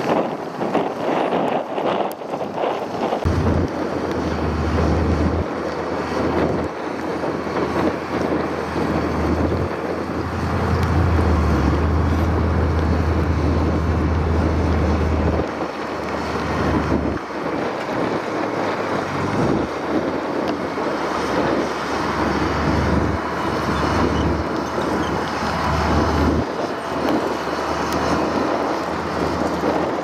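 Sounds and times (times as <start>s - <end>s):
wind on microphone: 0.0s - 30.0s.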